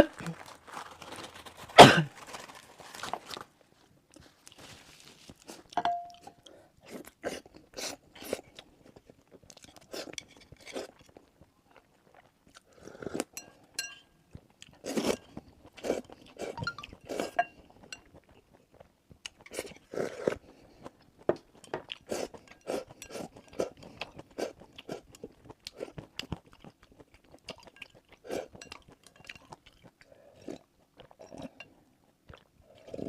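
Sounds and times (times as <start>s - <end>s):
person chewing noodles: 5.3s - 33.0s.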